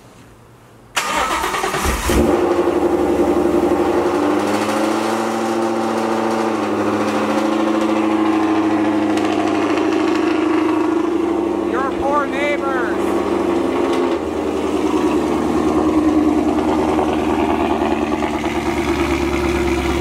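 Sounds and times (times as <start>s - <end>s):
car engine starting and idling: 0.9s - 20.0s.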